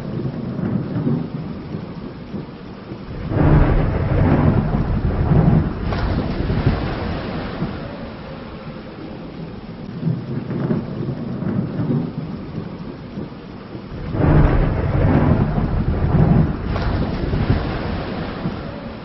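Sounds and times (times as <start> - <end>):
rain falling: 0.0 - 19.0
rolling thunder: 0.0 - 19.0.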